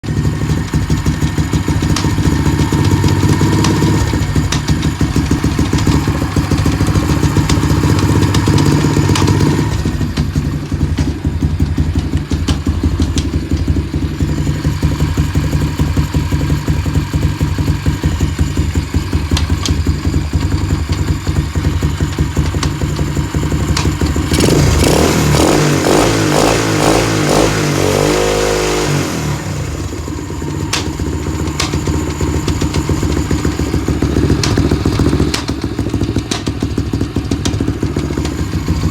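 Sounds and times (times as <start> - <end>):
motorbike engine running: 0.0 - 38.9
sprocket and chain clicks: 0.5 - 27.0, 30.0 - 38.9.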